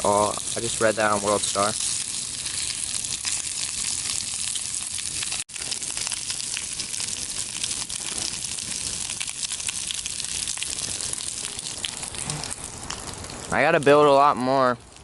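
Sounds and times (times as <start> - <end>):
bacon sizzling and crackling: 0.0 - 14.2.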